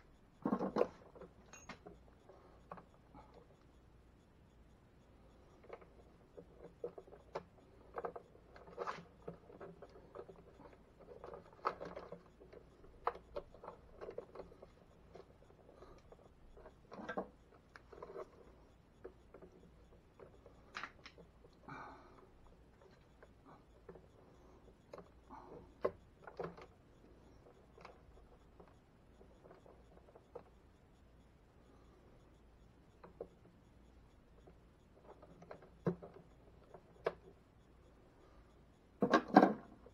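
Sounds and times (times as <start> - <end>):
wires clicking and scraping: 4.5 - 39.9.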